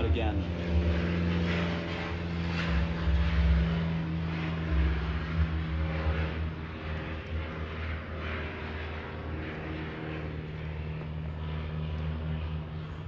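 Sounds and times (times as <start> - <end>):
low machine hum: 0.0 - 13.0
low rumble: 0.0 - 13.0.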